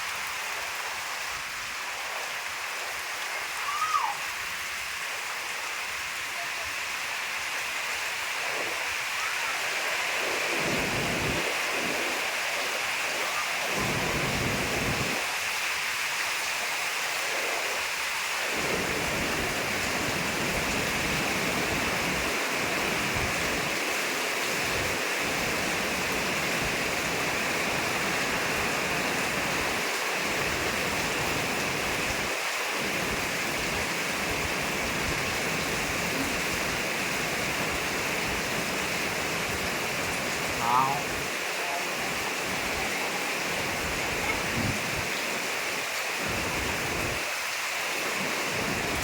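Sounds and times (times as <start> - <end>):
rain falling: 0.0 - 49.0
wind gusts: 0.0 - 49.0.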